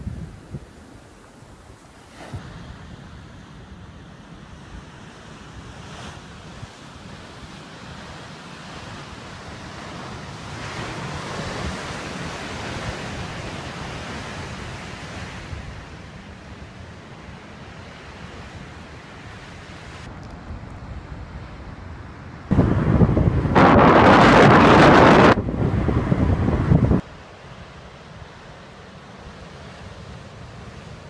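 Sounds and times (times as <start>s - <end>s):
wind on microphone: 0.0s - 7.1s, 8.8s - 27.0s.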